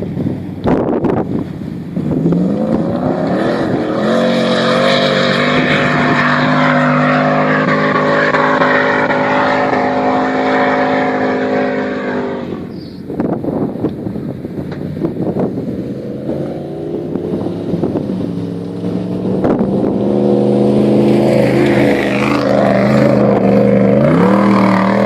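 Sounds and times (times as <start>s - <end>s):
vehicle engine revving: 0.0s - 12.9s, 14.6s - 25.0s
wind rushing: 0.0s - 25.0s.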